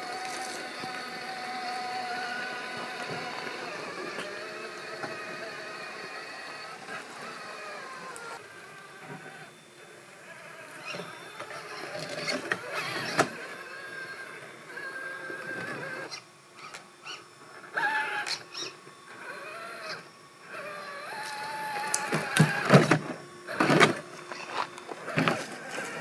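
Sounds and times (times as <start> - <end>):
electric motor whining: 0.0 - 26.0.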